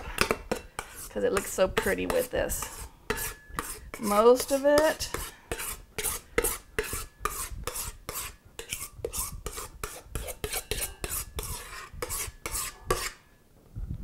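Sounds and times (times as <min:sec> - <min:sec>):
spoon scraping metal bowl: 0:00.0 - 0:13.2.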